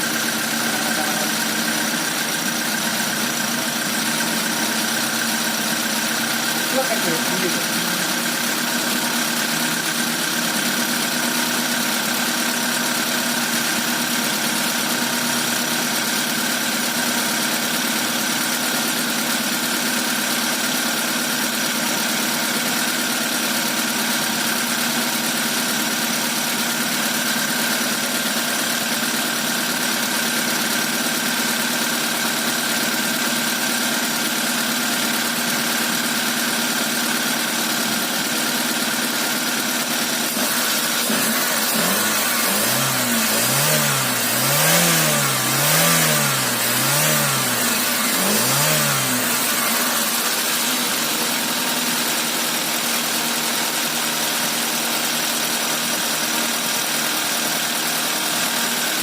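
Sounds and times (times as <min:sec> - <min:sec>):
car engine idling with whine: 0:00.0 - 0:59.0.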